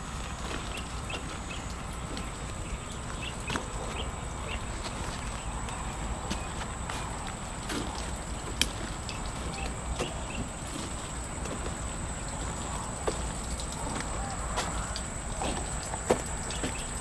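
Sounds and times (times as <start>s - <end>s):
footsteps on dirt path: 0.0s - 17.0s.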